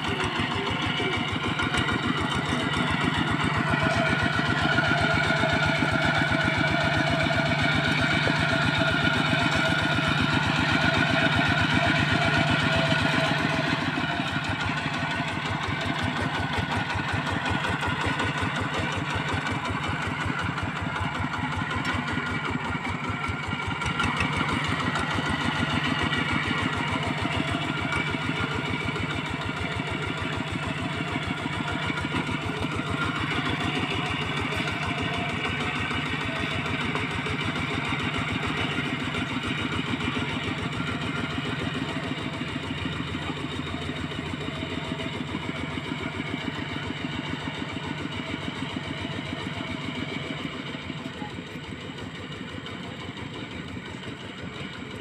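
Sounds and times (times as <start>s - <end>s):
tractor engine chugging: 0.0s - 55.0s.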